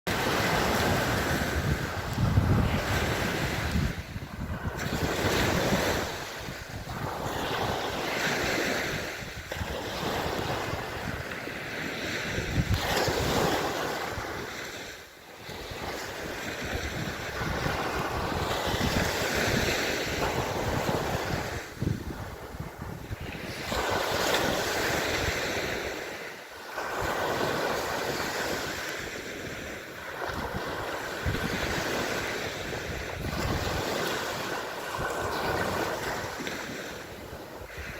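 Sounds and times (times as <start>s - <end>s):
sea waves washing: 0.1s - 37.9s
wind buffeting microphone: 0.1s - 37.9s.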